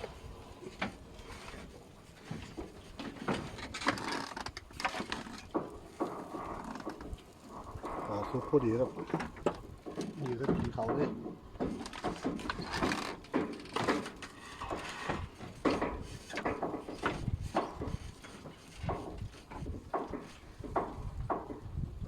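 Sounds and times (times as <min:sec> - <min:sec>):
handling clicks and knocks: 0:00.0 - 0:21.9.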